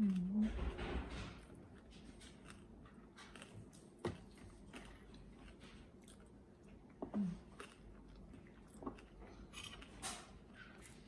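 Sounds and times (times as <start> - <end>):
person chewing crispy food: 1.5 - 11.0.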